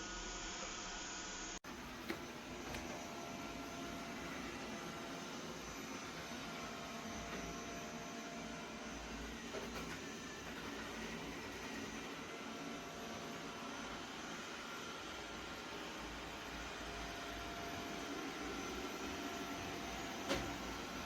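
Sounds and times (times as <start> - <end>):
robot vacuum cleaner running: 0.0 - 21.0.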